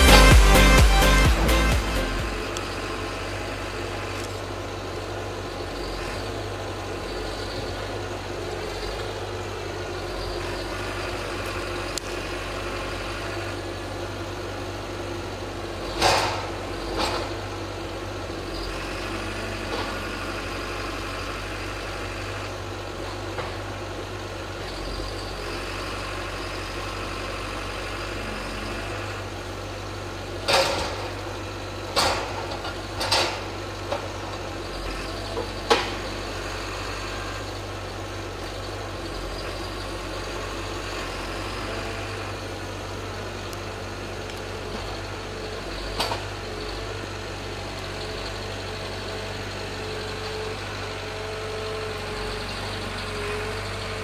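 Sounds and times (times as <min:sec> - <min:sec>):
diesel engine running: 0:00.0 - 0:54.0
hydraulic whine: 0:00.0 - 0:54.0.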